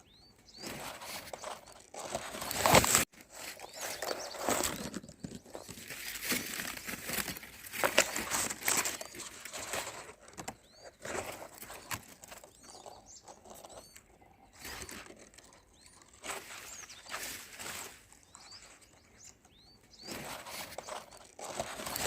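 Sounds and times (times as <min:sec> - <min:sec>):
rustling and crackling of nest: 0:00.0 - 0:22.0
small birds chirping: 0:00.0 - 0:22.0.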